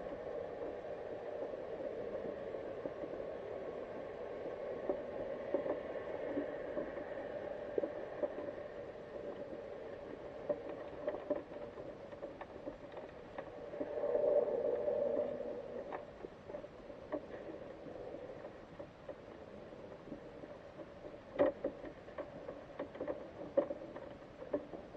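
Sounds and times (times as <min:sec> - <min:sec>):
dull underwater hum: 0:00.0 - 0:24.9
faint clicks and ticks: 0:00.0 - 0:24.9.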